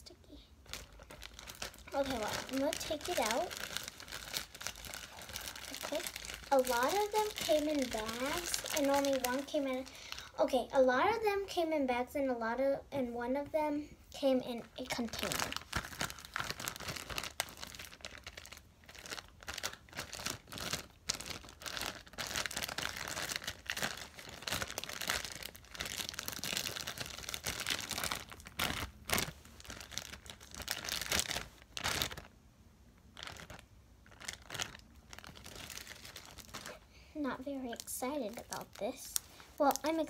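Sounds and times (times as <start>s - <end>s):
plastic bag crinkling: 0.6s - 10.4s, 14.8s - 32.4s, 33.0s - 40.0s.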